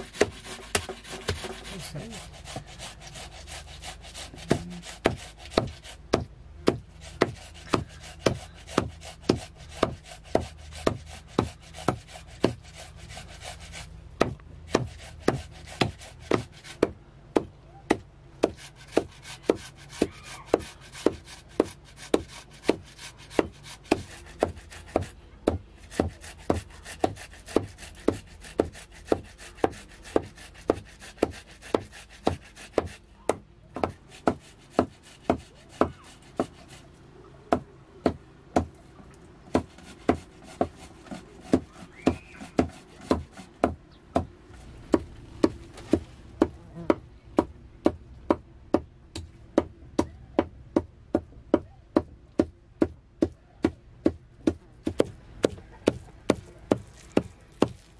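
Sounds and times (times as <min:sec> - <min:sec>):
steady chopping: 0:00.0 - 0:01.8, 0:02.4 - 0:36.8, 0:37.5 - 0:38.8, 0:39.5 - 0:57.9.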